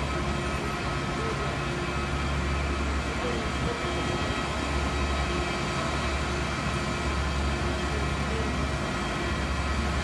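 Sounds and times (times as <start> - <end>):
jet airliner engine hum: 0.0 - 10.0.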